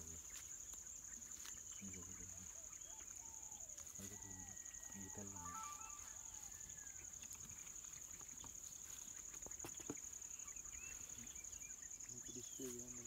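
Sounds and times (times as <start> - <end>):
faint bird chirps: 0.0 - 13.0
insects chirring: 0.0 - 13.0.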